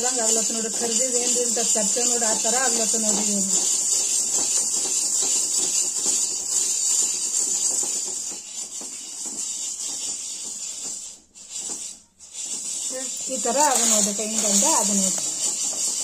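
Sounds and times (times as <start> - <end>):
grains crackling in a hot pan: 0.0 - 16.0.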